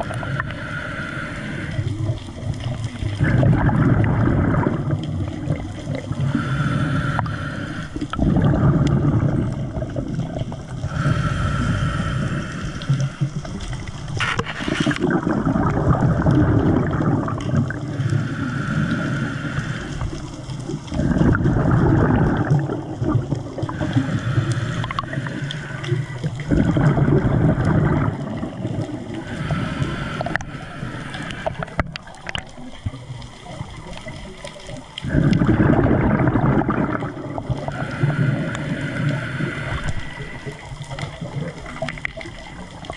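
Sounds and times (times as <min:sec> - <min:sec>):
underwater rushing and gurgling: 0:00.0 - 0:42.9.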